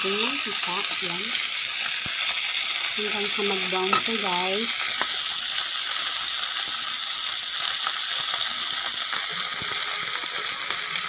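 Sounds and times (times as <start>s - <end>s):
chicken sizzling in oil: 0.0s - 11.0s
small crackles of frying: 0.0s - 11.0s.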